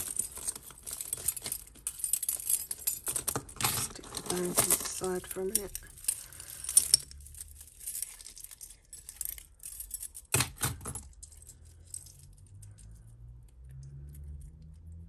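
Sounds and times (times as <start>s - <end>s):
metal jewellery jangling: 0.0s - 13.1s.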